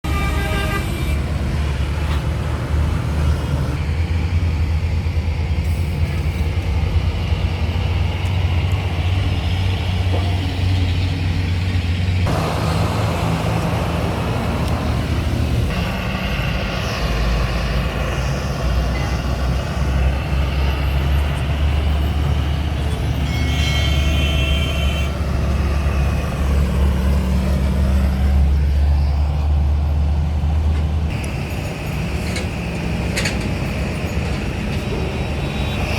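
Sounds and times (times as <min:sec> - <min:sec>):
road traffic noise: 0:00.0 - 0:35.9.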